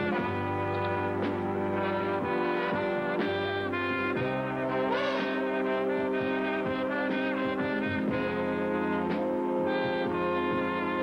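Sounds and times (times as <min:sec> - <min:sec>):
brass circus band music: 0:00.0 - 0:11.0.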